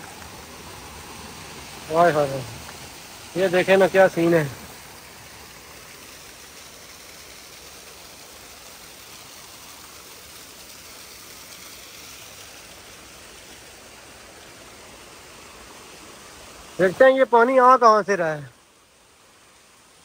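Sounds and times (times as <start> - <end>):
water rushing down a waterfall: 0.0 - 20.0.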